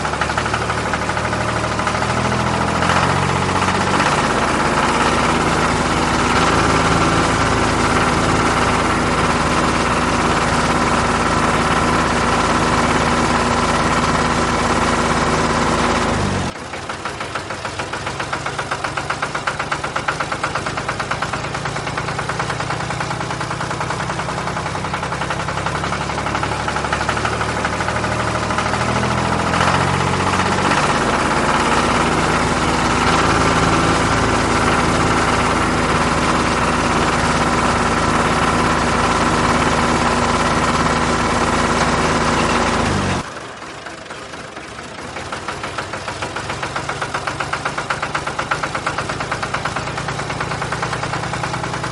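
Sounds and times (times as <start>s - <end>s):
engine running with knocking beat: 0.0s - 51.9s.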